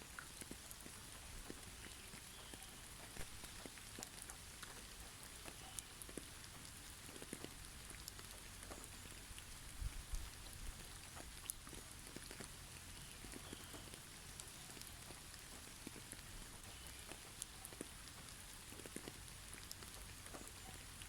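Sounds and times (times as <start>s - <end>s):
precipitation hissing on snowy trees: 0.0s - 21.0s.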